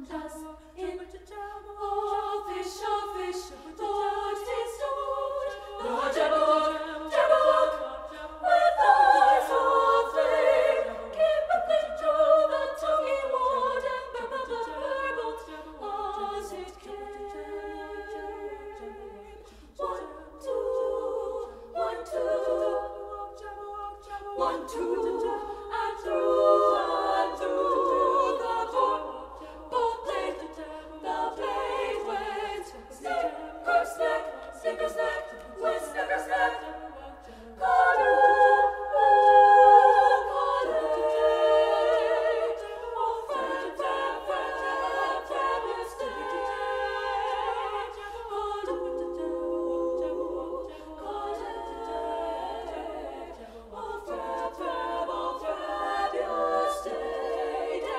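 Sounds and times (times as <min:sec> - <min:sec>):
women's choir singing a cappella: 0:00.0 - 0:57.9.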